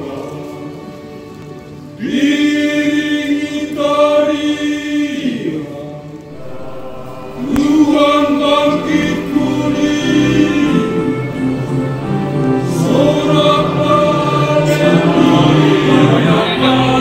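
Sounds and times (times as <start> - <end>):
church choir singing a hymn: 0.0 - 17.0.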